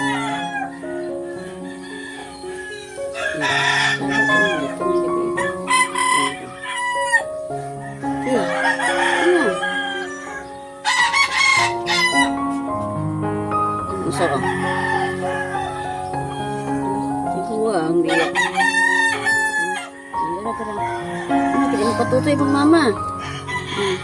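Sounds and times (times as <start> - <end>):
background music with held notes: 0.0 - 24.0.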